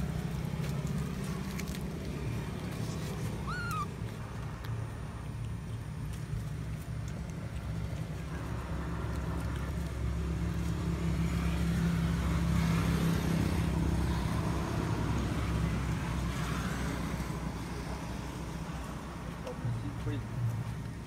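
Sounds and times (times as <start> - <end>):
vehicle engine passing: 0.0 - 21.0.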